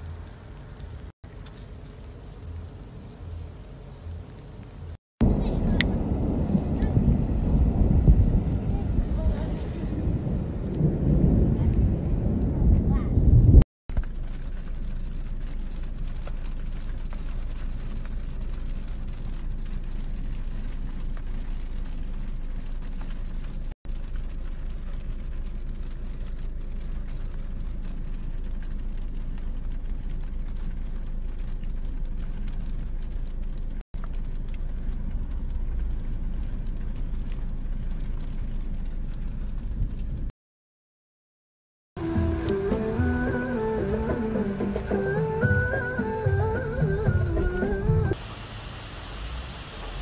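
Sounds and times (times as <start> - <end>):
car engine and tyres rumbling: 0.0 - 12.8, 13.9 - 40.3, 42.0 - 50.0
rain on glass: 0.0 - 13.0, 13.9 - 40.3, 42.0 - 50.0.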